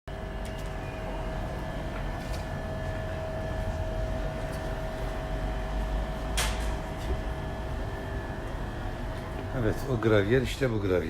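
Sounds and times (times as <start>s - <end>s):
low mechanical hum: 0.1s - 11.0s.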